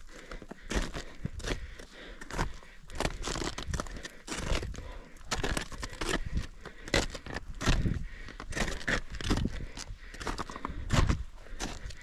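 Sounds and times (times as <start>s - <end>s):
snow and ice crunching: 0.1s - 12.0s.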